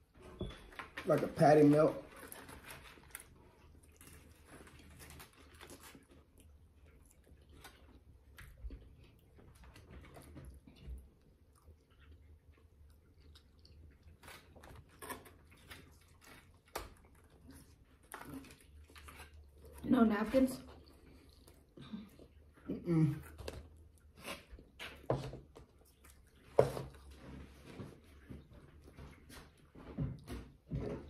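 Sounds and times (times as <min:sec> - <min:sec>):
faint chewing and biting: 0:00.6 - 0:31.0.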